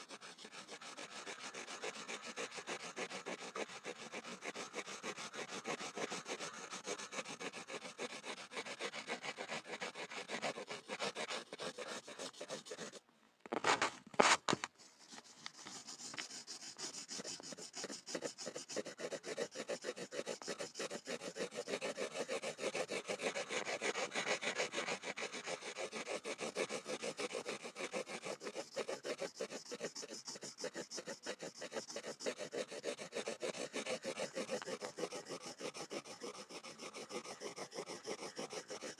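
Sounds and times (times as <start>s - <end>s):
pencil scribbling on a board: 0.0s - 38.9s.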